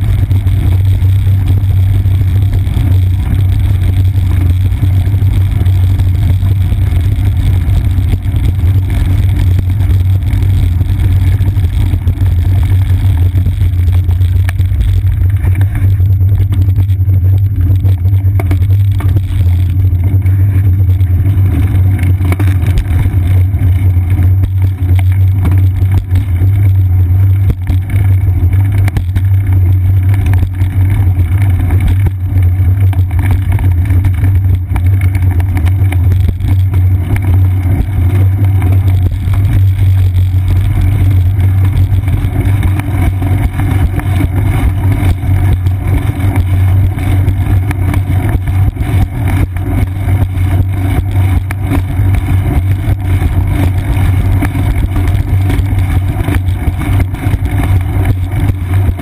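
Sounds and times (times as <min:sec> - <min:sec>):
wind buffeting on bicycle: 0:00.0 - 0:59.0.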